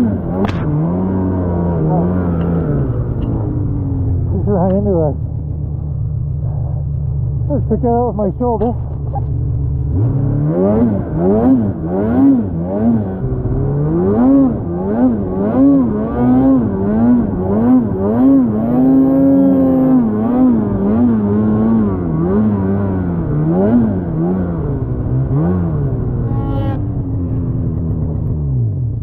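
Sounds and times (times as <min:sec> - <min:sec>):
snowmobile engine revving: 0:00.0 - 0:05.2, 0:06.4 - 0:27.6.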